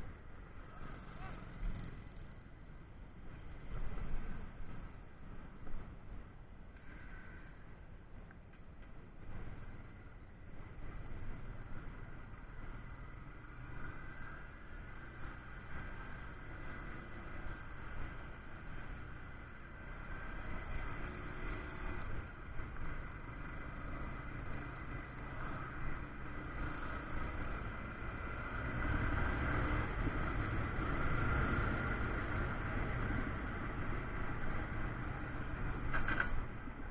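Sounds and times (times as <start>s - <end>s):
road and wind noise: 0.0s - 36.9s.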